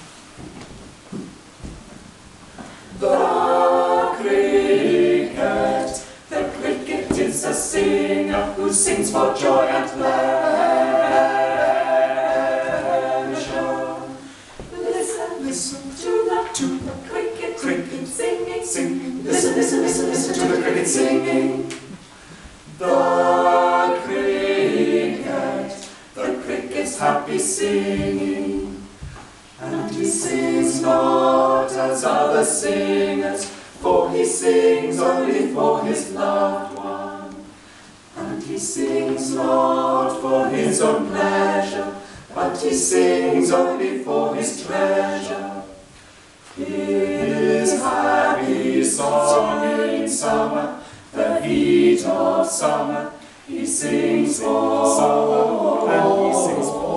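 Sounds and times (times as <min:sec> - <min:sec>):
choir singing a cappella: 0:02.8 - 0:56.9.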